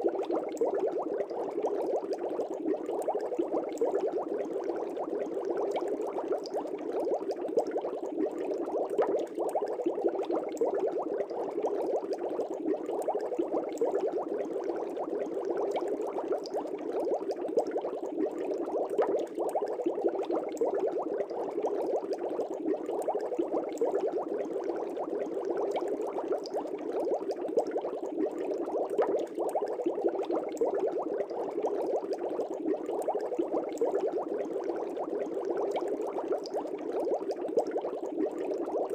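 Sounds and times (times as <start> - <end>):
aquarium air bubbling: 0.0 - 38.9.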